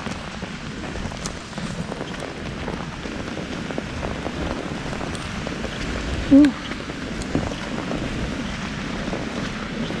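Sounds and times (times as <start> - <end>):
heavy rain hissing: 0.0 - 10.0
low rumble: 0.0 - 10.0
raindrop ticks: 0.0 - 10.0.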